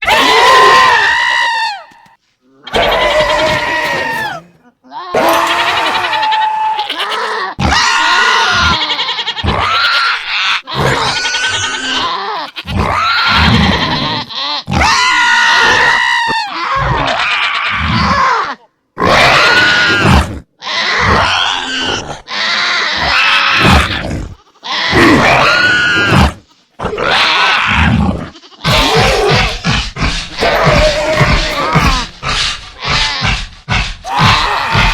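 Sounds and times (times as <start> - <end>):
creature calls: 2.5 - 34.9.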